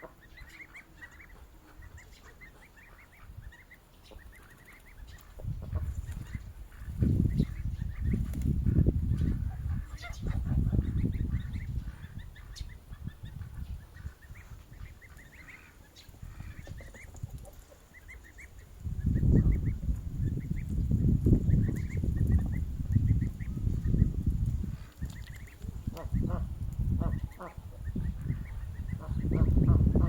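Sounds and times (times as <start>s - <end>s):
goslings peeping: 0.0s - 30.0s.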